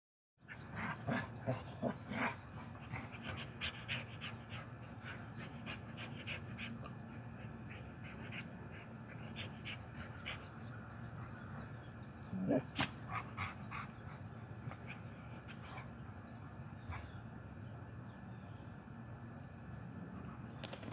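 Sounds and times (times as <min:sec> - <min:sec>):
dog panting: 0:00.5 - 0:17.3.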